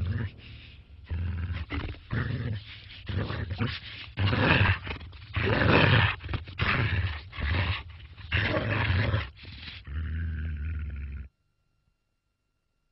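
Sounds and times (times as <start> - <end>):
animal growling: 0.0 - 11.3.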